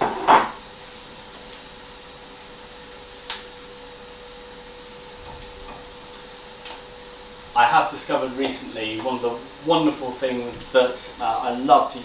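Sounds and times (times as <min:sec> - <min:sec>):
extractor fan running: 0:00.0 - 0:12.0.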